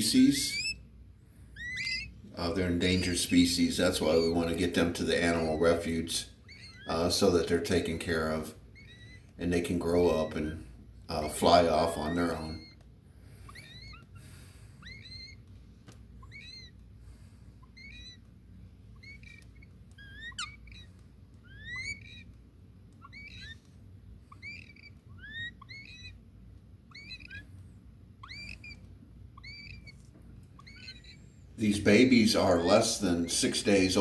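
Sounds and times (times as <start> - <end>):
nestling woodpeckers chirping: 0.0 - 17.0, 17.6 - 34.0.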